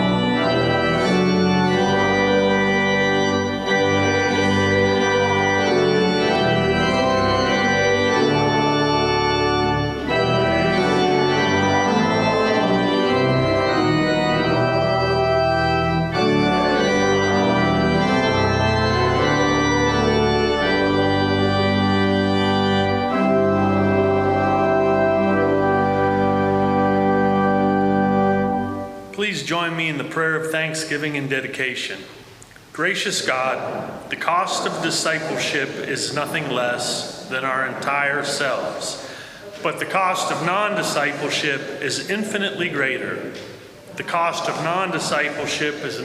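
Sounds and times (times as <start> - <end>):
organ playing sustained chords: 0.0 - 46.0.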